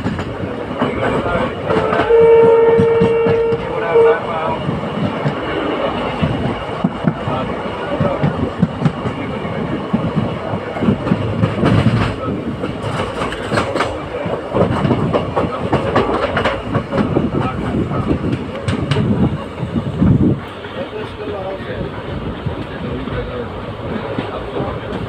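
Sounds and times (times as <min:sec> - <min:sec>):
train running noise: 0:00.0 - 0:25.0.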